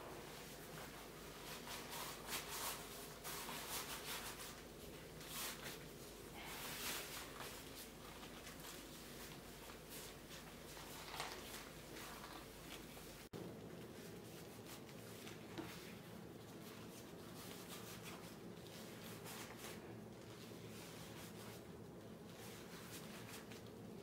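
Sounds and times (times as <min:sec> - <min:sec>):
leather gloves rubbing and rustling: 0:00.1 - 0:24.0.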